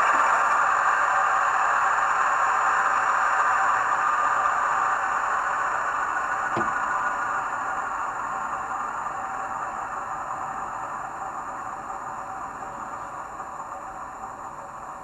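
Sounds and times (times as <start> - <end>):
model diesel engine sound: 0.0 - 15.0.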